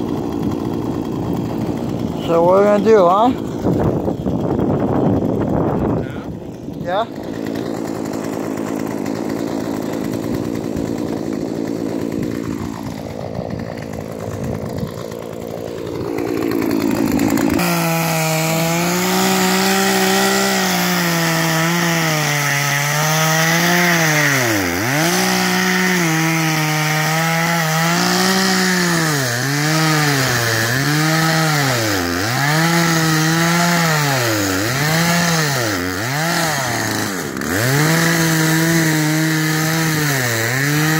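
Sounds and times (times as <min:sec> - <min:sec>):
chainsaw cutting ice: 0:00.0 - 0:40.9.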